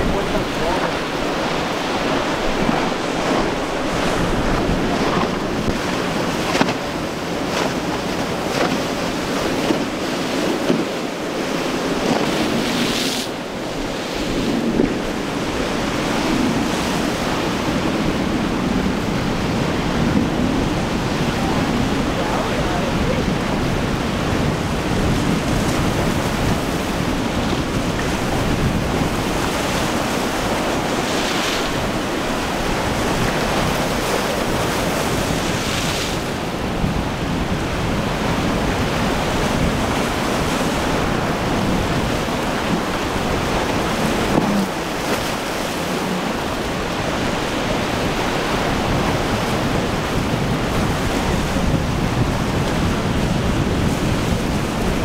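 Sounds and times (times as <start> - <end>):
surf breaking: 0.0 - 55.0
wind buffeting microphone: 0.0 - 55.0.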